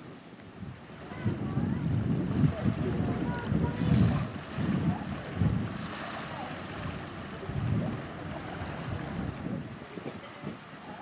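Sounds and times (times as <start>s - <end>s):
wind buffeting microphone: 0.5s - 11.0s.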